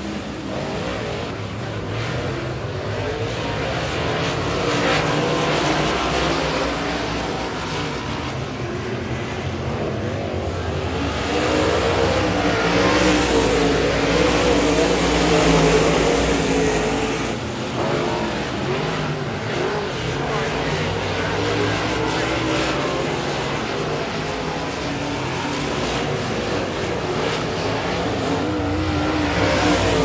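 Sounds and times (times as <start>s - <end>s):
race car engines roaring: 0.0s - 30.0s.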